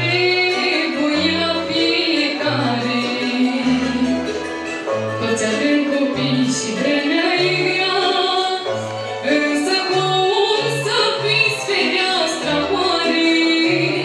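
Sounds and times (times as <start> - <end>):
woman singing into a microphone: 0.0 - 4.3, 5.2 - 14.0
instrumental accompaniment: 0.0 - 14.0.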